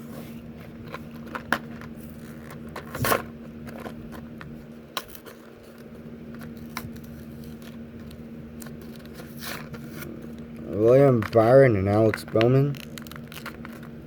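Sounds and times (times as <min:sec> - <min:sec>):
packaging scraping rustle: 0:00.0 - 0:14.0
steady low hum: 0:00.0 - 0:14.0
packaging clicks: 0:00.8 - 0:14.0.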